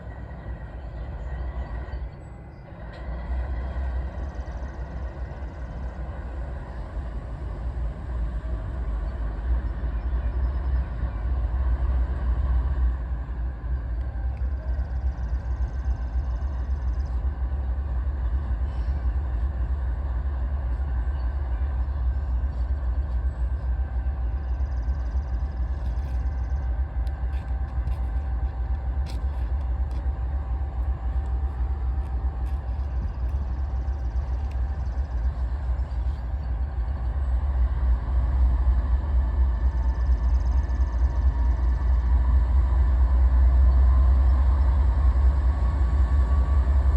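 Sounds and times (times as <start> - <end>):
moving train rumble: 0.0 - 46.9.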